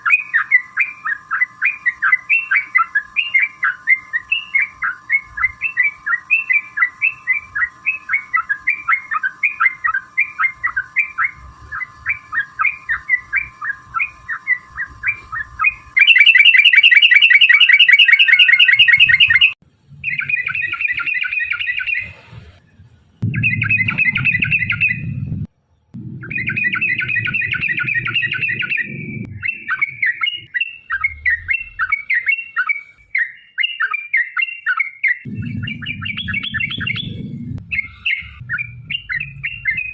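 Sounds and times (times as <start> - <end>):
bird singing trills: 0.0 - 22.2, 23.3 - 25.1, 25.8 - 39.9.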